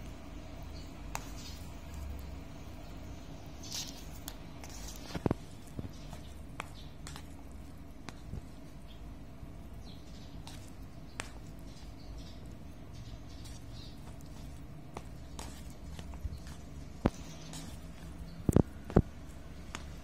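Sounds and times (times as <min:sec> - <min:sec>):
noodles squishing: 0:01.0 - 0:02.8, 0:03.5 - 0:20.0.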